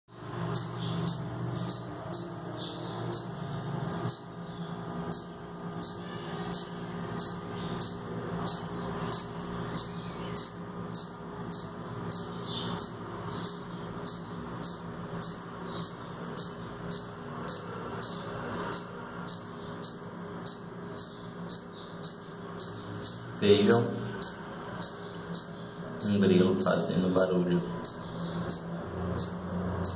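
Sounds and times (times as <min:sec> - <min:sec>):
cricket chirping: 0:00.1 - 0:03.4, 0:04.1 - 0:04.4, 0:05.1 - 0:23.4, 0:24.2 - 0:29.9.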